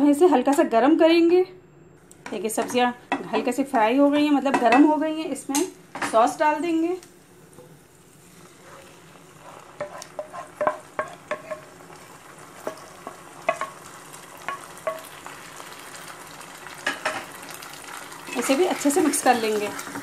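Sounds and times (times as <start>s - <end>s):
low sizzle: 0.0s - 20.0s.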